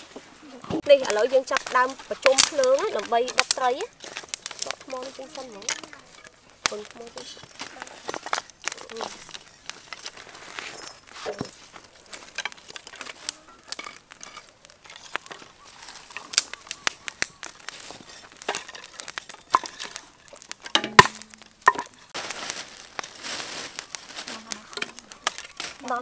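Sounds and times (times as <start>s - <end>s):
plastic bag crinkling: 0.7s - 26.0s.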